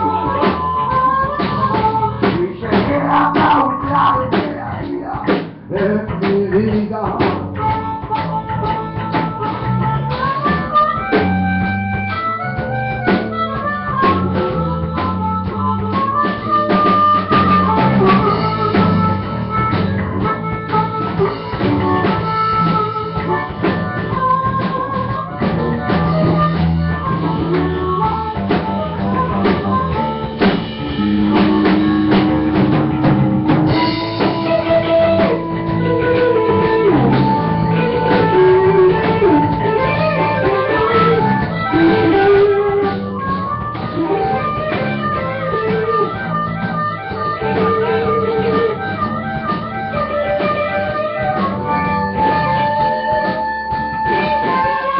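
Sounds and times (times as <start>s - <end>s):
blues harmonica bending notes: 0.0s - 54.9s
blues-rock band playing: 0.0s - 54.9s.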